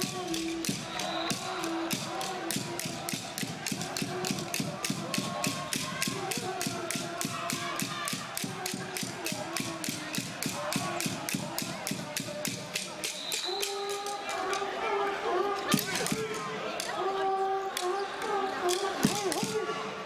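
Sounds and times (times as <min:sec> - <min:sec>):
fast rhythmic clapping: 0:00.0 - 0:14.7, 0:15.7 - 0:17.0, 0:17.7 - 0:19.6
crowd chanting: 0:00.0 - 0:20.0.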